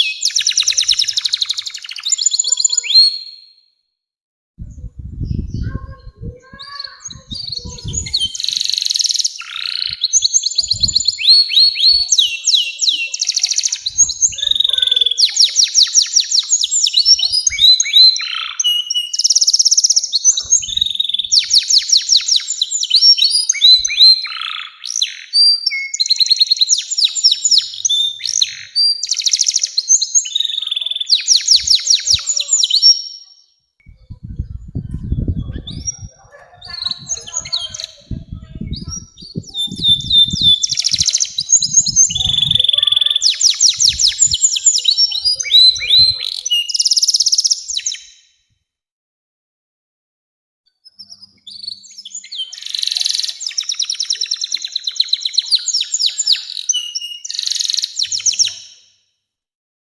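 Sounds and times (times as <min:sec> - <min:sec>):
canary singing trills: 0:00.0 - 0:03.6, 0:04.6 - 0:48.2, 0:50.8 - 0:59.0.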